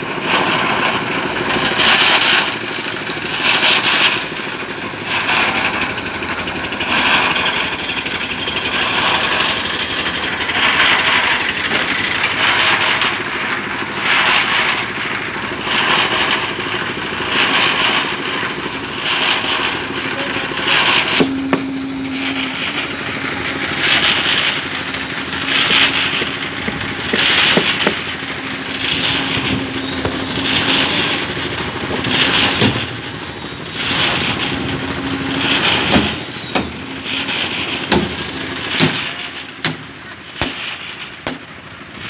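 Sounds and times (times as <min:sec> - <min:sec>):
powered breaker hammering: 0:00.0 - 0:42.0
steady engine hum: 0:00.0 - 0:42.0.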